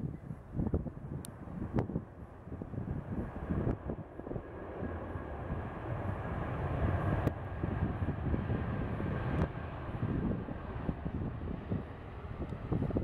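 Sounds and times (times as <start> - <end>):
jet engines at taxi power: 0.0 - 13.0
wind rumble on microphone: 0.0 - 13.0.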